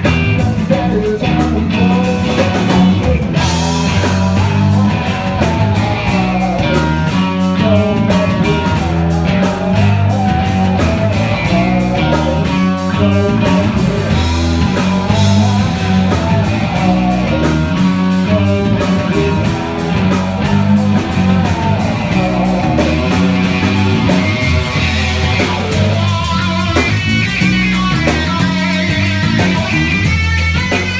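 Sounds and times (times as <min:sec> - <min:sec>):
electric guitar line: 0:00.0 - 0:30.9
funk rock band playing: 0:00.0 - 0:30.9.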